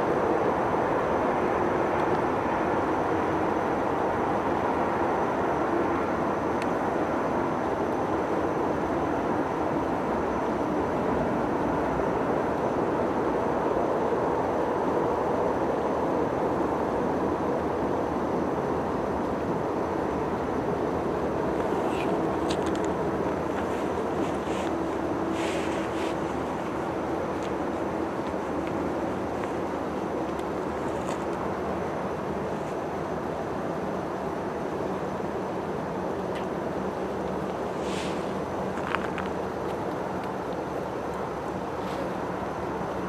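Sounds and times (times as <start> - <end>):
distant freight train rumble: 0.0 - 43.0.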